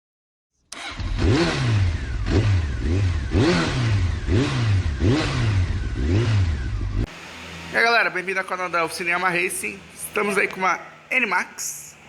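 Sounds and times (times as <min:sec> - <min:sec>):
scooter engine revving: 0:00.7 - 0:11.1.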